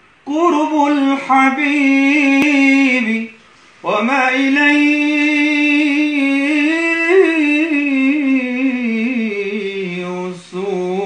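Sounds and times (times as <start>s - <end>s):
man singing melisma: 0.0s - 11.0s.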